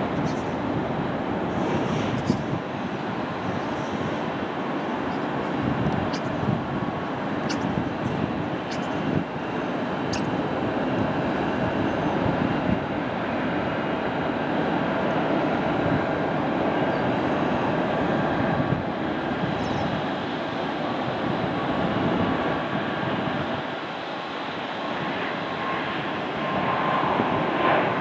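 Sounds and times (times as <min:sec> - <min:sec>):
jet engines taxiing rumble: 0:00.0 - 0:28.0.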